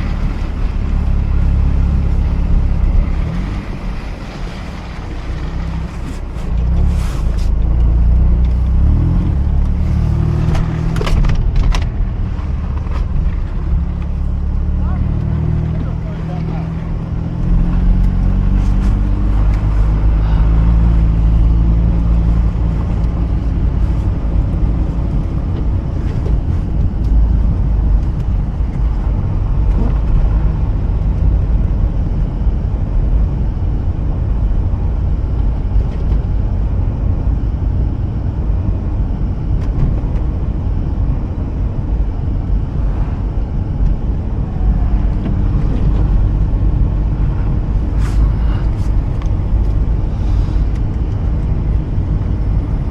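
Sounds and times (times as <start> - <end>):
road noise: 0.0 - 52.9
rotary engine low rumble: 0.0 - 52.9.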